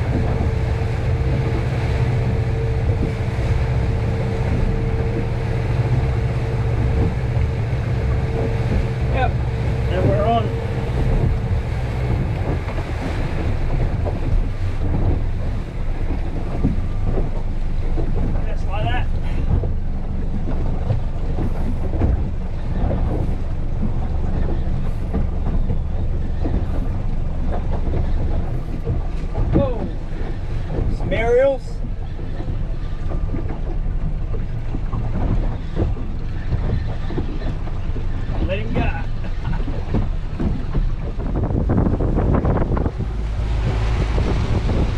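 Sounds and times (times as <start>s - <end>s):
boat motor humming: 0.0s - 44.9s
water rushing past hull: 0.0s - 44.9s
wind buffeting microphone: 0.0s - 44.9s.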